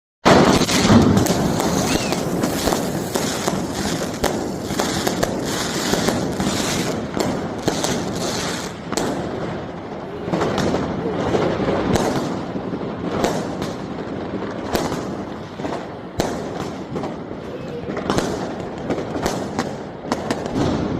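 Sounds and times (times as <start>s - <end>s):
fireworks crackling: 0.2s - 20.9s
firecracker sharp cracks: 0.3s - 20.9s.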